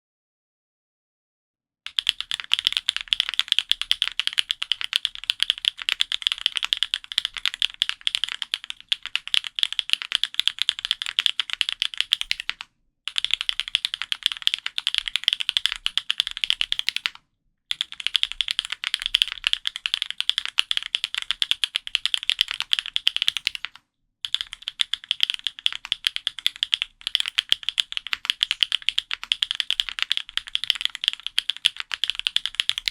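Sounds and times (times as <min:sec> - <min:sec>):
fast typing on mechanical keyboard: 0:01.9 - 0:32.9.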